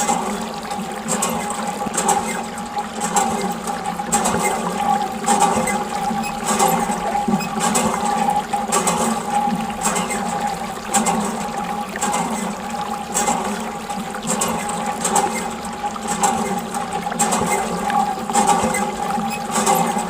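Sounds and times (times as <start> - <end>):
pump hum: 0.0 - 20.0
water gushing and splashing: 0.0 - 20.0.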